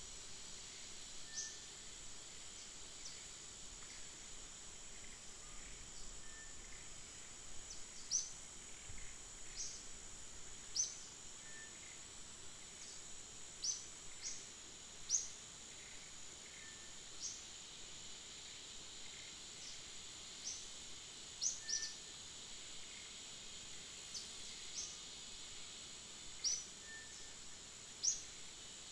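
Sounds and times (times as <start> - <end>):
high insect drone: 0.0 - 28.9.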